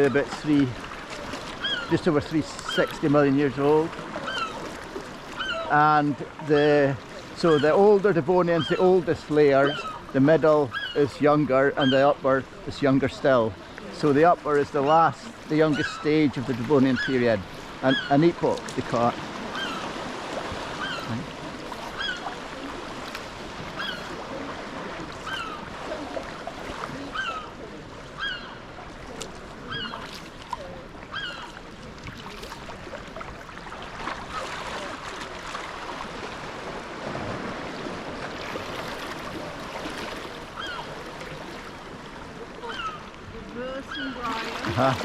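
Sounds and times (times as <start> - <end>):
paddle splashing water: 0.0 - 45.0
small waves: 0.0 - 45.0.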